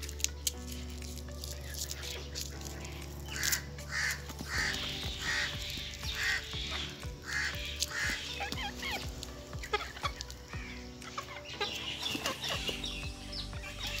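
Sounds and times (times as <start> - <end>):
background music sustained tones: 0.0 - 14.0
bird harsh calls: 1.6 - 14.0.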